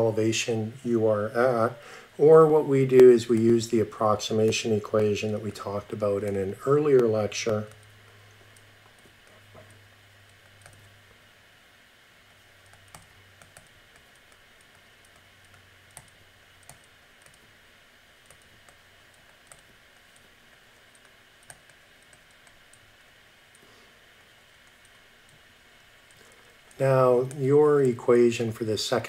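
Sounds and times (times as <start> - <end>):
low steady hiss: 0.0 - 29.0.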